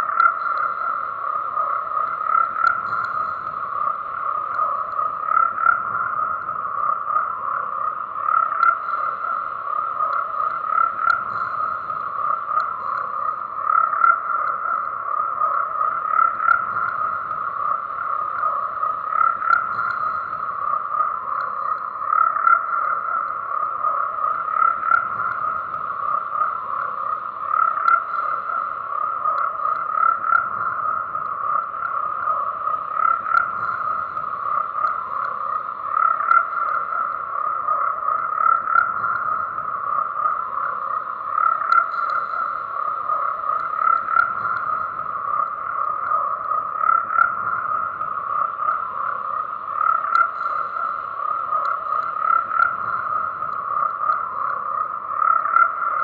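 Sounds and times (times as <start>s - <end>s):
chorus of frogs croaking: 0.0s - 56.0s.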